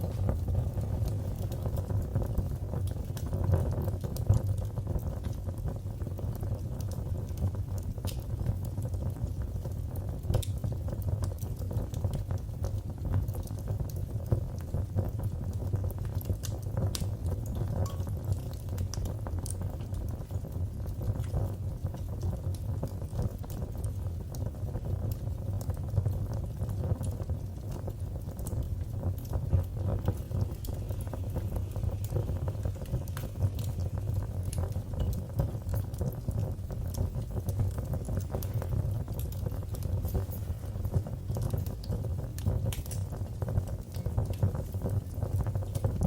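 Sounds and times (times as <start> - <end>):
fire crackling and popping: 0.0 - 46.0
low rumble of flames: 0.0 - 46.0.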